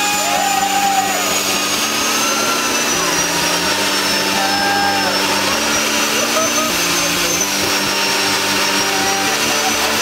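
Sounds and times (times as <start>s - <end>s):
high turbine whine: 0.0s - 10.0s
jet engine roaring: 0.0s - 10.0s.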